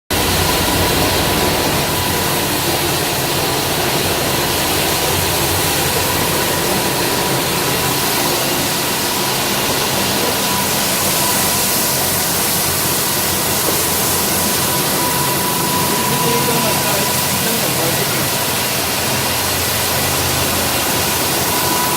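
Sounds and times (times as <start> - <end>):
carpet-washing machine running: 0.1 - 21.9.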